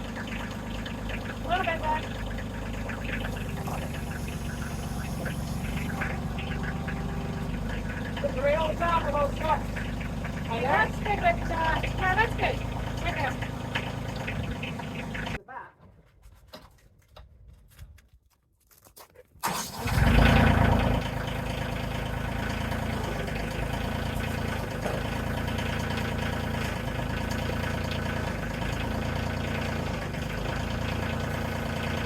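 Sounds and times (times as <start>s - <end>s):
engine starting and idling: 0.0s - 15.4s, 19.4s - 32.0s.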